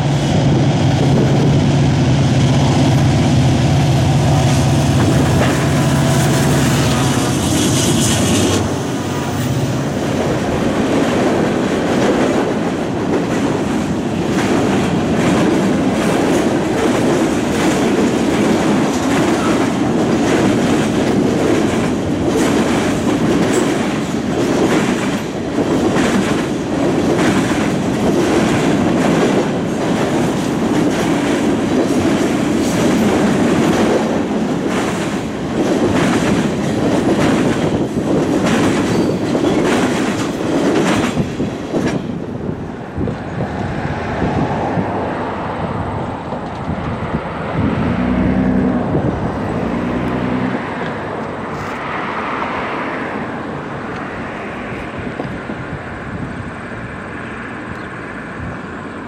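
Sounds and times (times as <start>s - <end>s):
train wheels rumbling on rail: 0.0s - 59.0s
clickety-clack over rail joints: 2.8s - 59.0s.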